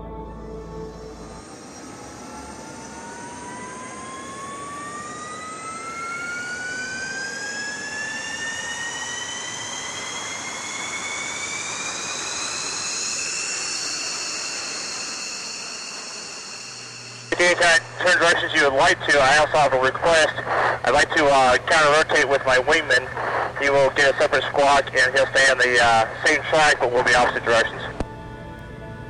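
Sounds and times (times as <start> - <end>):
jet engine whine: 0.0 - 29.0
jet engine roar: 1.0 - 28.1.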